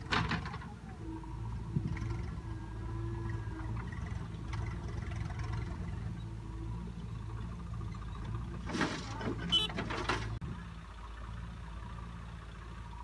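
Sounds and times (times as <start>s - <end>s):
backhoe loader engine running: 0.0s - 13.0s
tractor diesel engine running: 0.0s - 13.0s.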